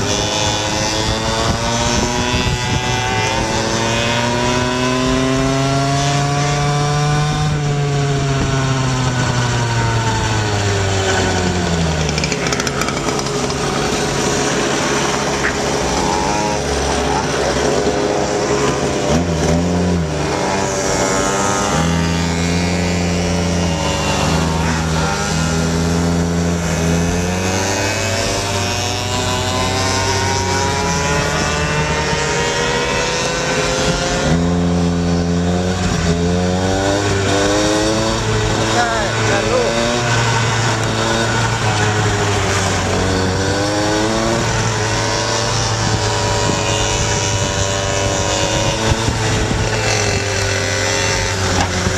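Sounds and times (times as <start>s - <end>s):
scooter engines revving: 0.0s - 51.9s.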